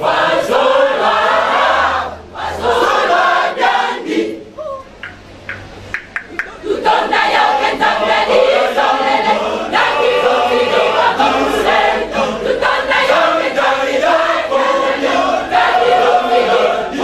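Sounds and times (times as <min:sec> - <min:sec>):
choir singing loudly: 0:00.0 - 0:04.5, 0:06.6 - 0:17.0.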